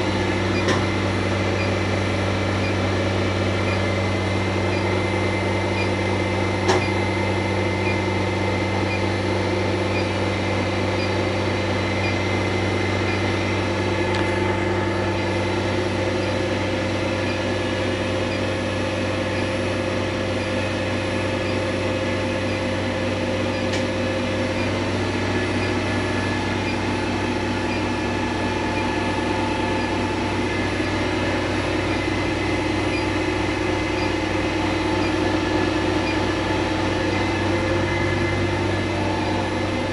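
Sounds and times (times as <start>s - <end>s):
machinery humming and whining: 0.0s - 39.9s.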